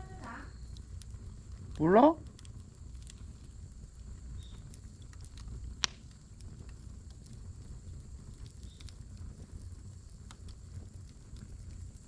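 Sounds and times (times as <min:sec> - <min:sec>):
firewood crackling and popping: 0:00.0 - 0:12.0
low steady rumble: 0:00.0 - 0:12.0.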